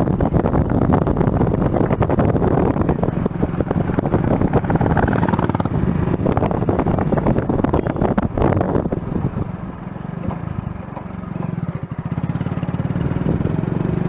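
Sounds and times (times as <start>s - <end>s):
wind on microphone: 0.0s - 10.8s, 11.8s - 14.0s
motorcycle engine running: 0.0s - 14.0s.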